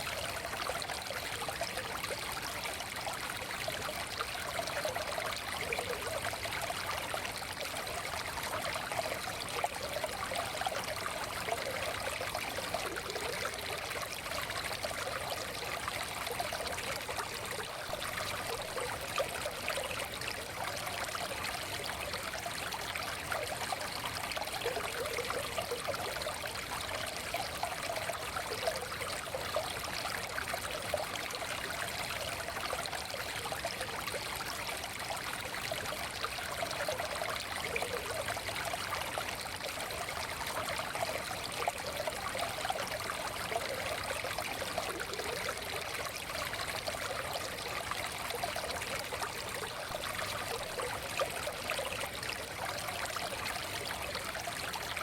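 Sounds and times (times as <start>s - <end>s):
stream babbling over stones: 0.0s - 55.0s.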